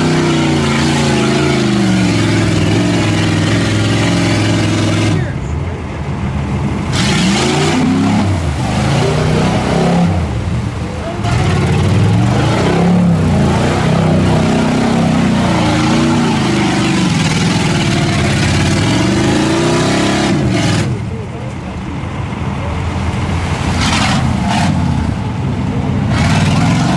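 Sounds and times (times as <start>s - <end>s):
spinning tyres churning mud: 0.0s - 26.9s
truck engine revving: 0.0s - 26.9s.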